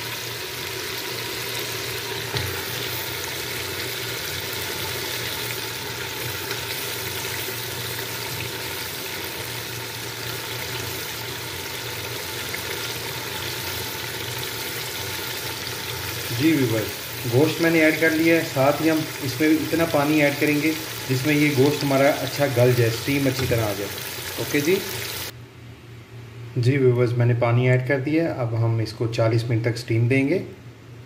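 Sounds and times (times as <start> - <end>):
food sizzling in hot oil: 0.0 - 25.3.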